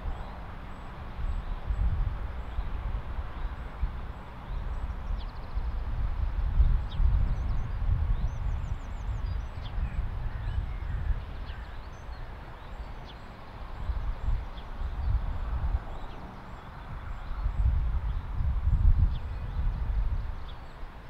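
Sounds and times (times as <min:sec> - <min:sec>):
songbirds chirping: 0:00.0 - 0:21.0
wind buffeting microphone: 0:00.0 - 0:21.0.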